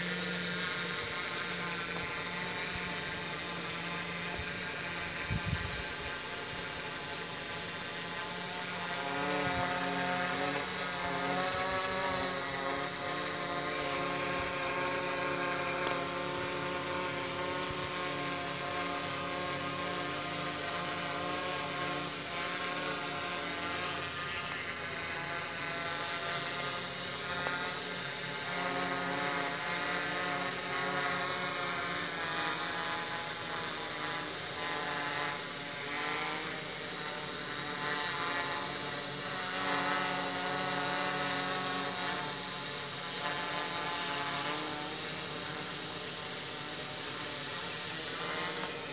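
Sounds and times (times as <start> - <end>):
drone motors whining: 0.0 - 48.9.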